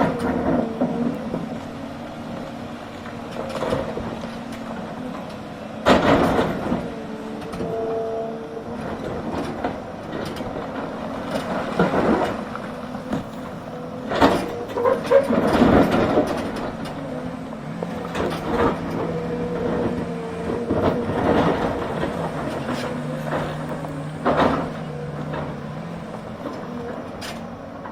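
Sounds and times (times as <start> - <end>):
excavator diesel engine running: 0.0 - 27.9
machine knocks and clanks: 2.4 - 7.9, 8.8 - 27.9.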